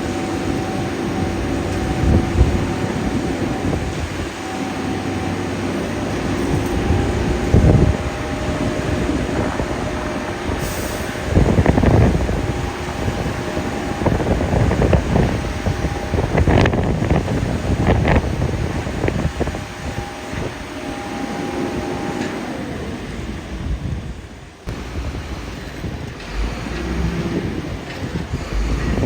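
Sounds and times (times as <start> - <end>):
construction machinery rumbling: 0.0 - 29.0.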